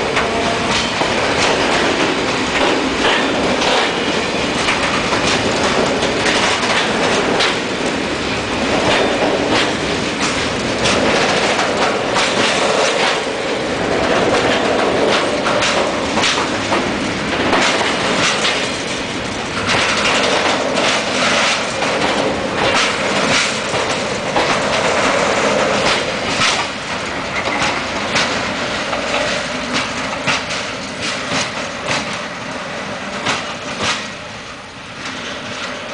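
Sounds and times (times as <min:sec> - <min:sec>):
wheels knocking over rail joints: 0:00.0 - 0:32.2
freight train rumbling past: 0:00.0 - 0:35.9.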